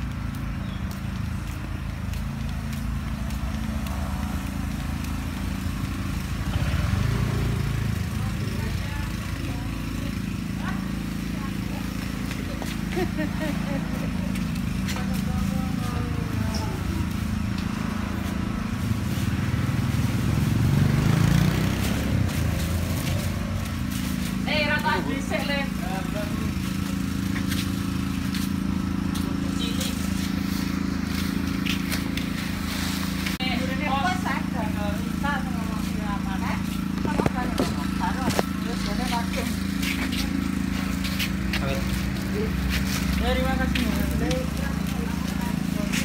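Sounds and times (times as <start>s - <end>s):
sandal footsteps on pavement: 0.0s - 46.0s
vehicle engine drone: 0.0s - 46.0s.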